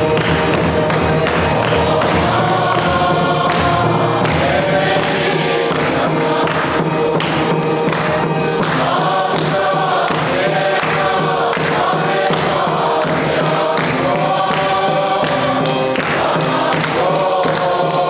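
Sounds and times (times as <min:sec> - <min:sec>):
steady beat: 0:00.0 - 0:17.9
congregation singing a hymn: 0:00.0 - 0:18.0.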